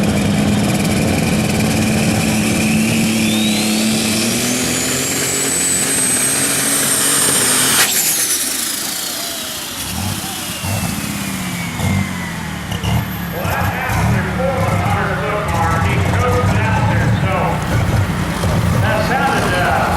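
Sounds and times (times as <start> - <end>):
engine running hard under load: 0.0 - 19.9
high whine: 0.0 - 19.9.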